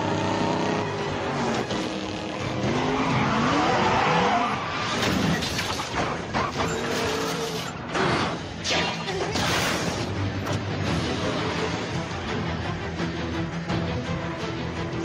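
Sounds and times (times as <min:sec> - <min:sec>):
car engines revving: 0:00.0 - 0:08.7, 0:09.4 - 0:15.0
tyres skidding and squealing: 0:00.0 - 0:12.2.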